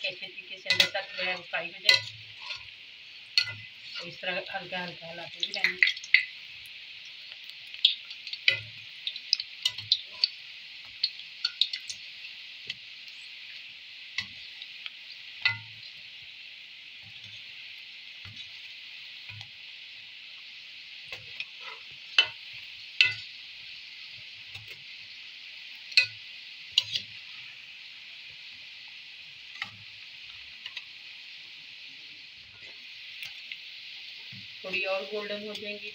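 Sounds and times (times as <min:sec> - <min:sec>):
food sizzling in hot oil: 0:00.0 - 0:35.9.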